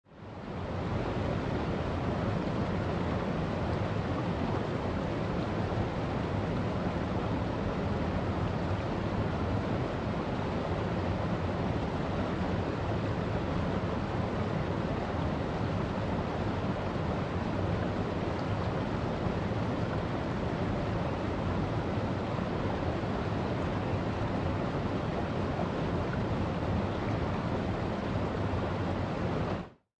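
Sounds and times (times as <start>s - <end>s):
stream rushing over rocks: 0.3s - 29.8s.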